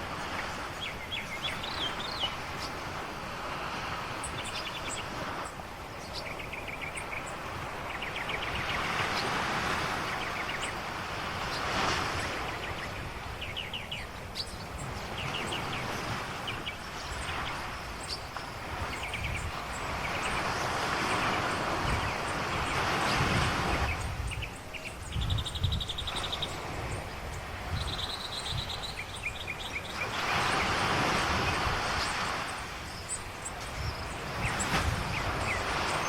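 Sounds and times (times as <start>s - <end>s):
ocean waves washing in: 0.0s - 36.0s
small birds chirping: 0.2s - 3.0s, 4.0s - 36.0s.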